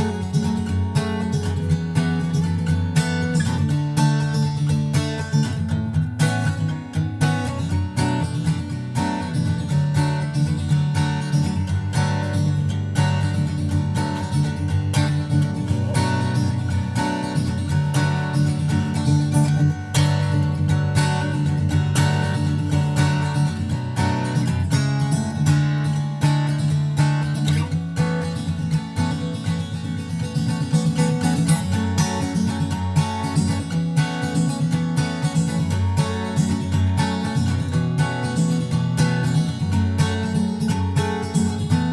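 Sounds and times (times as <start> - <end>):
acoustic guitar music: 0.0 - 41.9.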